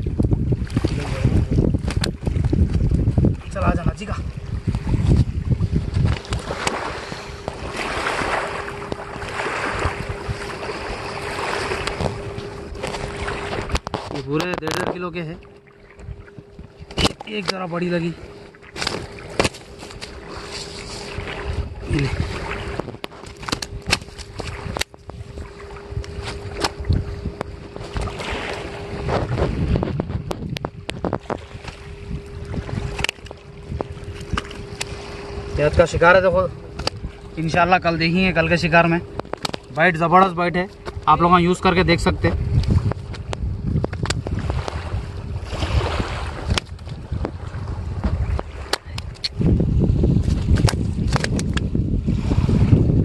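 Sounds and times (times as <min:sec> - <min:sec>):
faint steady hum: 0:00.0 - 0:53.0
wind buffeting microphone: 0:00.0 - 0:53.0.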